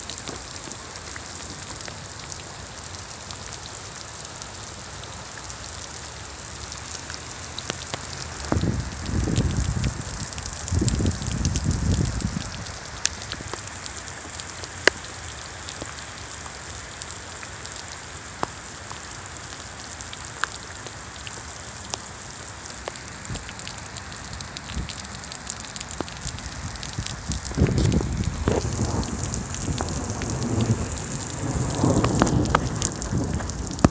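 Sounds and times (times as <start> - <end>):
heavy rain hissing: 0.0 - 33.9
sharp ticks of raindrops: 0.0 - 33.9.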